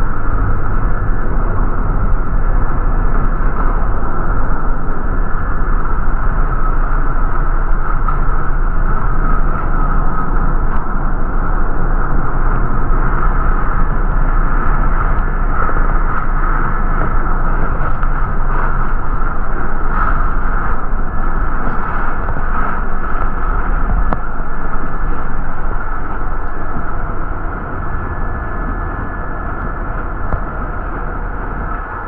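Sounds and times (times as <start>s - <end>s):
bus engine and road rumble: 0.0s - 32.0s
constant higher hum: 0.0s - 32.0s.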